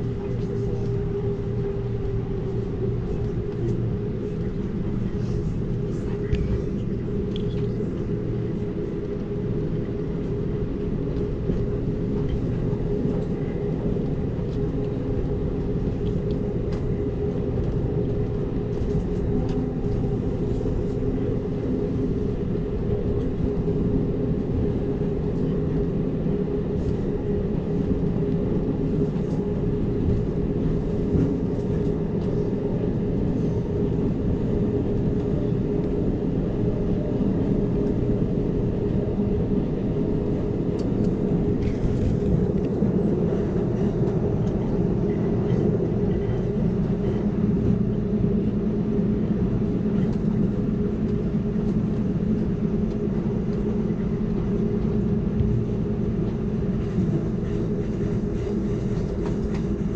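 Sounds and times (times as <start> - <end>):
constant hum: 0.0 - 59.9
train wheels rumbling on rail: 0.0 - 59.9.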